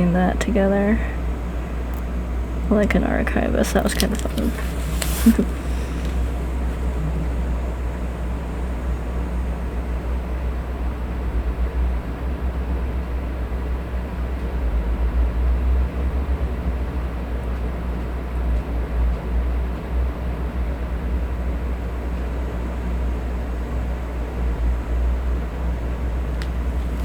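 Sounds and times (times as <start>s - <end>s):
electric fan whooshing: 0.0s - 27.0s.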